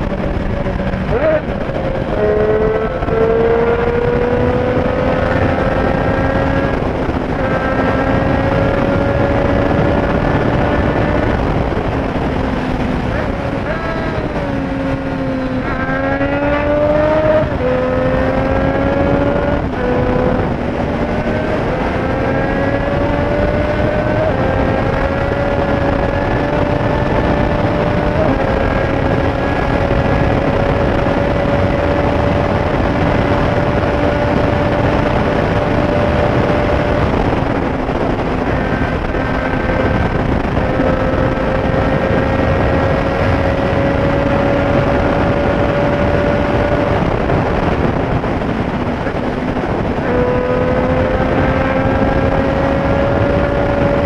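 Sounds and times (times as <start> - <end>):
motorcycle engine accelerating: 0.0 - 54.0
wind noise: 0.0 - 54.0.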